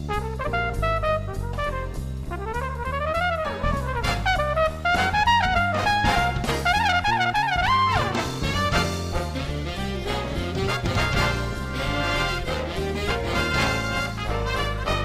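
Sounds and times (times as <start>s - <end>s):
upbeat swing jazz music: 0.0s - 15.0s.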